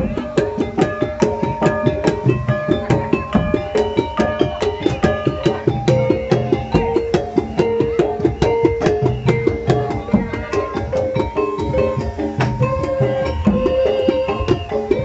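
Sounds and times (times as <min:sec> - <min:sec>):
hand drums beating fast rhythm: 0:00.0 - 0:15.0
ringing metal percussion: 0:00.0 - 0:15.0.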